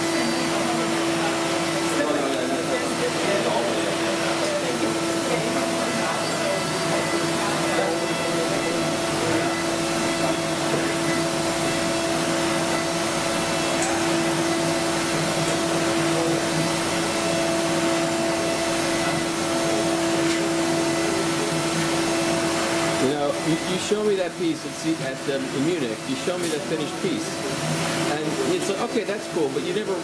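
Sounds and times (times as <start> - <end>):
milling machine cutting wood: 0.0 - 24.5.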